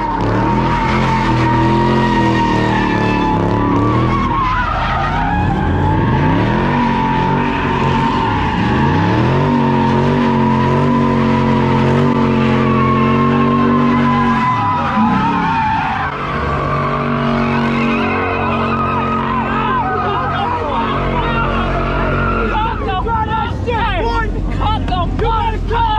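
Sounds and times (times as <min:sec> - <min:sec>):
car engine at high revs: 0:00.0 - 0:25.8
tyres squealing: 0:00.0 - 0:25.8.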